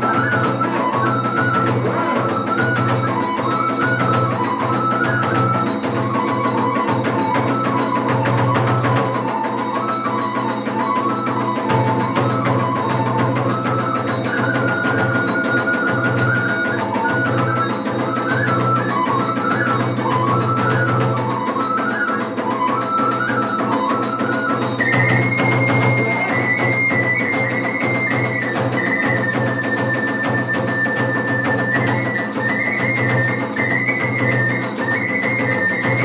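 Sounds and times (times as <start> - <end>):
bamboo flute melody: 0.0 - 36.0
drums: 0.0 - 36.0
small hand cymbals: 0.0 - 36.0.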